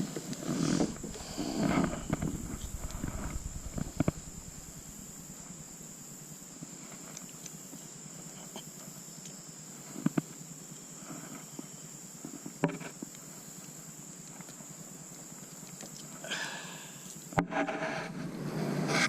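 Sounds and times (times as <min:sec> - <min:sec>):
crickets chirping: 0:00.0 - 0:18.5.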